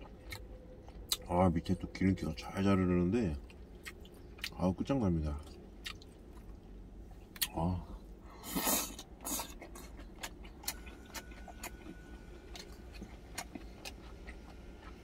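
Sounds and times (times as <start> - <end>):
person chewing: 0.0 - 1.3, 3.3 - 4.6, 5.4 - 15.0.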